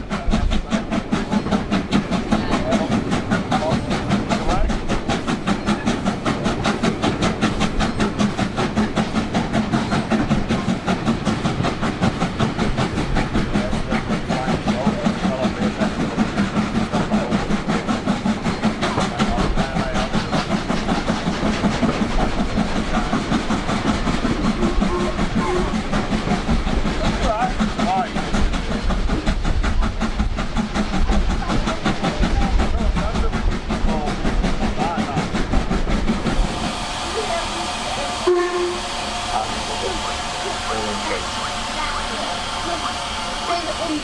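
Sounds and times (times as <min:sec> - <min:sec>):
steam locomotive exhaust beats: 0:00.0 - 0:44.0
train rumble: 0:00.0 - 0:44.0.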